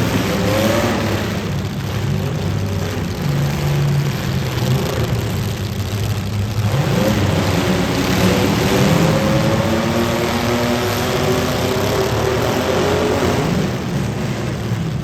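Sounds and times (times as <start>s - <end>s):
car engines revving: 0.0s - 15.0s
steady rushing noise: 0.0s - 15.0s.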